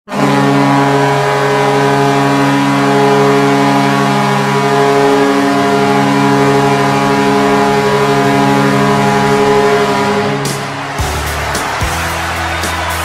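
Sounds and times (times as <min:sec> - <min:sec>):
goal horn blast: 0:00.1 - 0:13.0.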